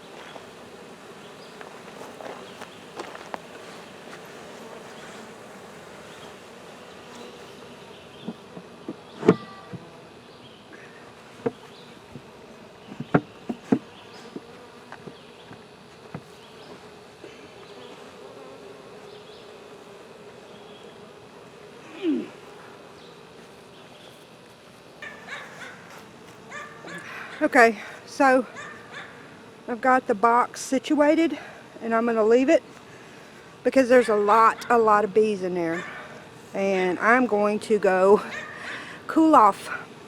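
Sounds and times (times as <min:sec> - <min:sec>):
honey bees buzzing: 0:00.0 - 0:40.0.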